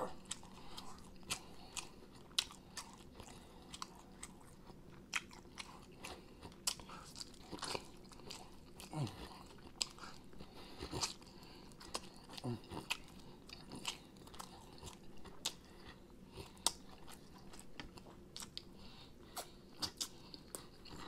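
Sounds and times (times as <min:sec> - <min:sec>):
close-miked chewing and biting: 0:00.0 - 0:21.0.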